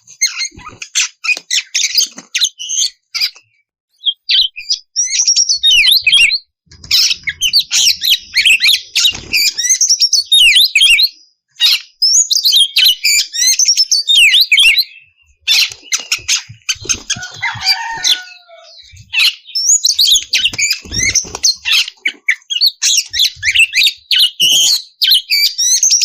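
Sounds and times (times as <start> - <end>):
bird singing whistles and chatter: 4.0 - 26.0.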